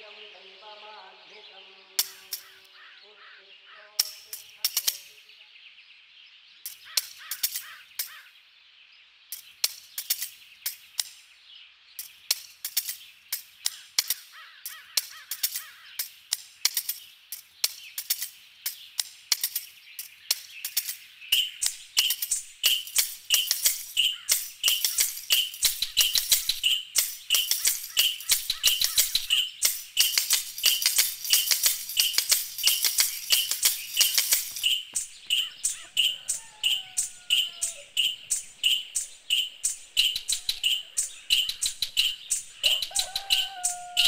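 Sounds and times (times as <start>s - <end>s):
bird chirping: 0.0s - 44.0s.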